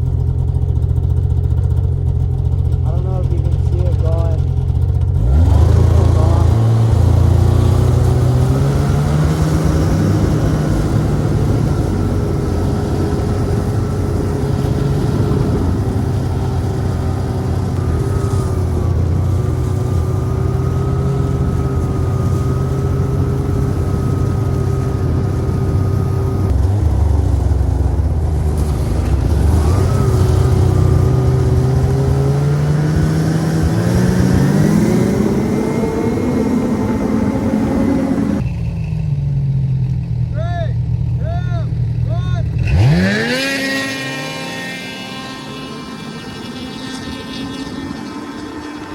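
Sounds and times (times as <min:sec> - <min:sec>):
snowmobile engine running: 0:00.0 - 0:48.9.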